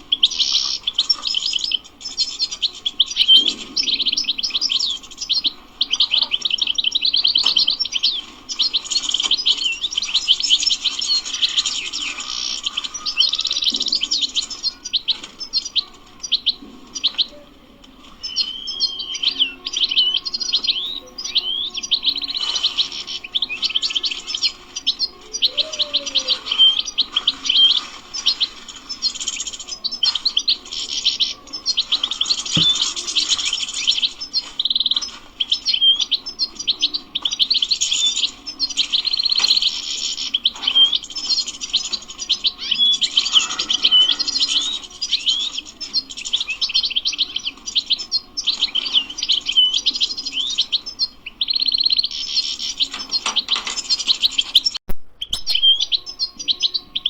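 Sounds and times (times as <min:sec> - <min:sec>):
finch singing twittering song: 0:00.0 - 0:57.0.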